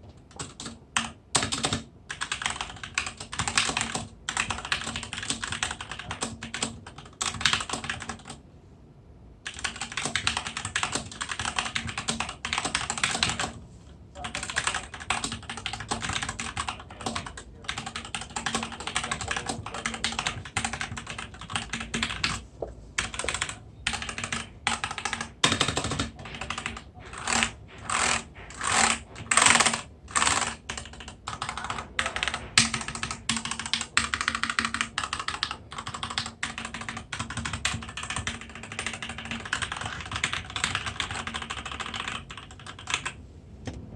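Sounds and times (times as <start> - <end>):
mechanical keyboard typing: 0.2 - 8.4, 9.4 - 13.6, 14.2 - 22.4, 23.0 - 43.2.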